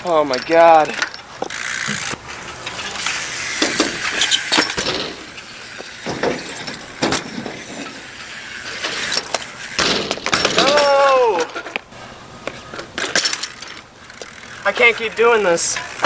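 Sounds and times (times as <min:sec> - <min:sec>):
bike rolling on concrete: 0:00.0 - 0:16.0
metal bike parts clanking: 0:00.0 - 0:16.0.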